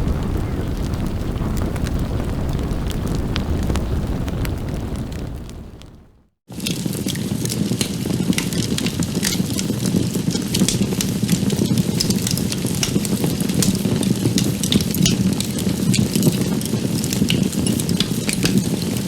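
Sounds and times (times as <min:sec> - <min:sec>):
food sizzling and crackling: 0:00.0 - 0:19.0.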